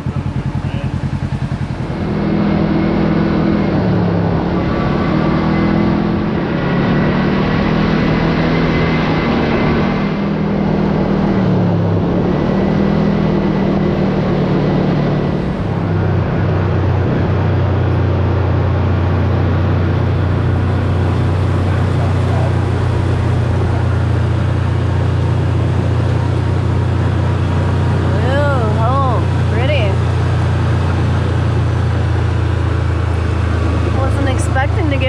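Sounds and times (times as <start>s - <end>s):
utility vehicle engine running: 0.0s - 35.0s.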